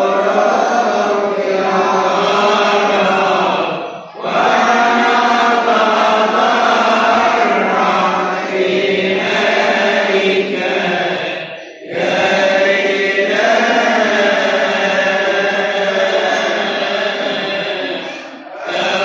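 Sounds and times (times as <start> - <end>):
liturgical chanting: 0.0 - 19.0.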